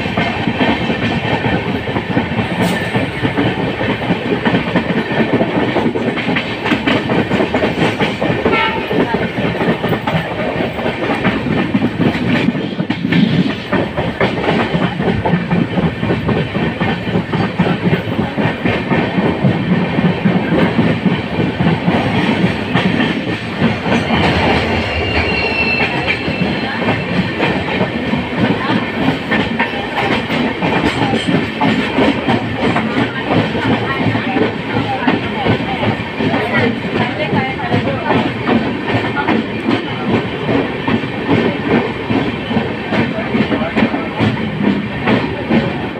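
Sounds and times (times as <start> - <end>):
train rumble: 0.0 - 45.9
wheels clacking on rails: 0.0 - 45.9.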